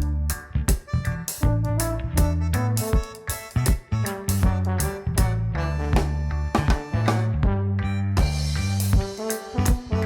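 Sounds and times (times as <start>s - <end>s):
upbeat swing jazz music: 0.0s - 10.0s.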